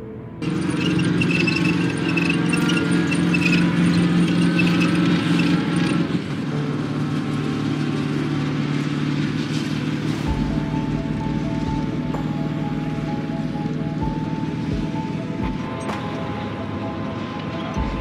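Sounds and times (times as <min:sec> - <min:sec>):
diesel engine of tracked vehicle driving: 0:00.0 - 0:18.0.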